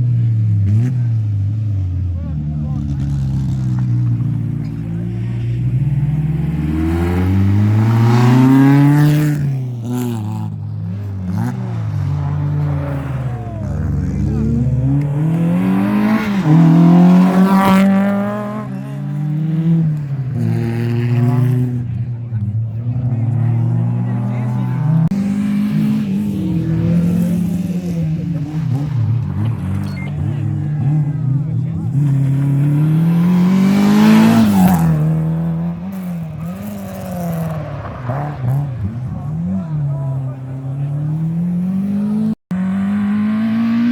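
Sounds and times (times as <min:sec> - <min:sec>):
rally car engine passing: 0:00.0 - 0:43.9.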